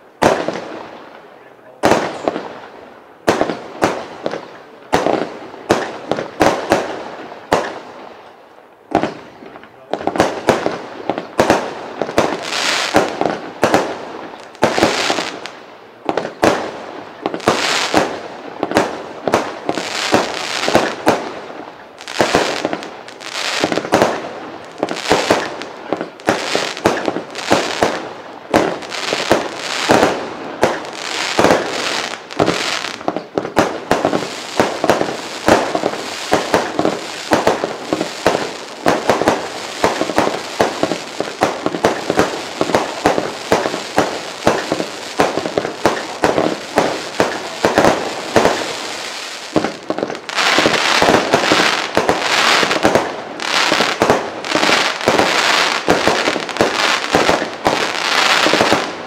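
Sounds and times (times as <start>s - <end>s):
firework bangs: 0.0s - 1.1s, 1.7s - 8.1s, 8.9s - 59.0s.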